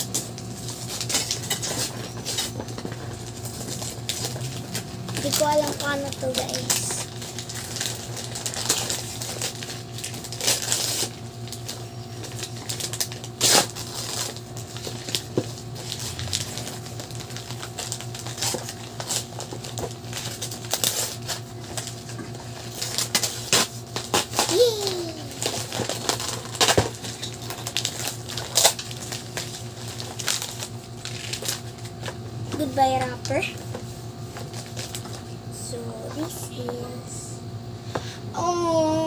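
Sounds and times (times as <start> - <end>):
wrapping paper tearing and crumpling: 0.0 - 35.9.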